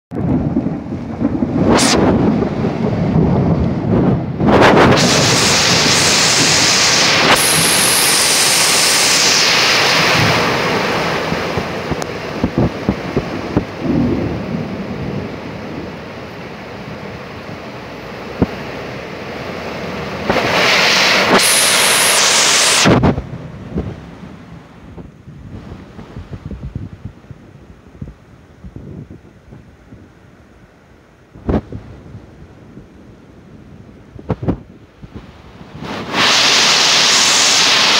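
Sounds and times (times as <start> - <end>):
thunder rumbling: 0.1 - 30.6, 31.2 - 37.9
torrential rain on a street: 0.1 - 37.9.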